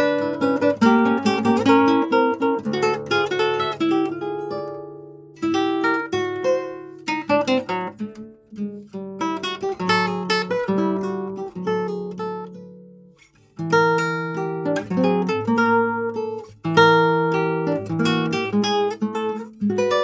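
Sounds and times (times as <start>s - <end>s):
fingerpicked classical guitar: 0.0s - 20.0s.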